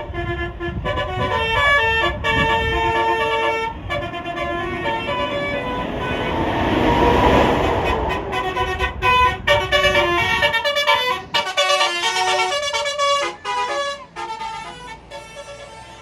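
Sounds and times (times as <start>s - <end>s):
bus engine rumbling: 0.0s - 16.0s
bus musical horn tune: 0.0s - 16.0s.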